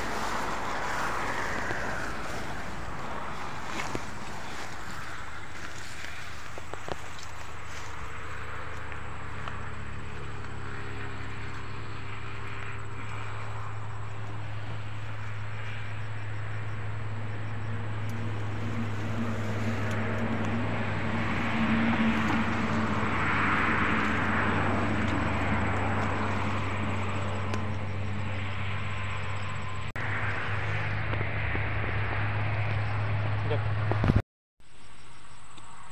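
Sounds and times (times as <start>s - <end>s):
grass rustling: 0.0s - 31.3s
low motor drone: 0.0s - 34.2s.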